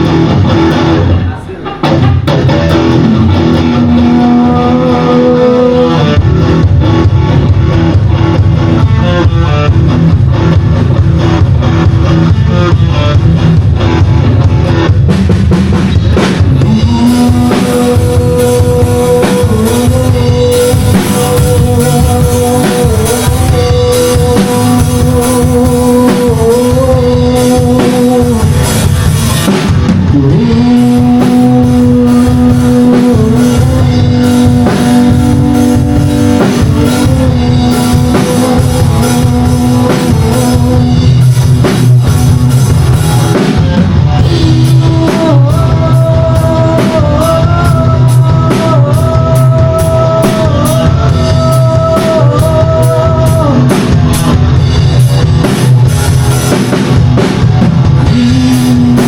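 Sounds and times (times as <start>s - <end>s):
drum kit beating: 0.0s - 59.0s
guitar: 0.0s - 59.0s
rock band through speakers: 0.0s - 59.0s.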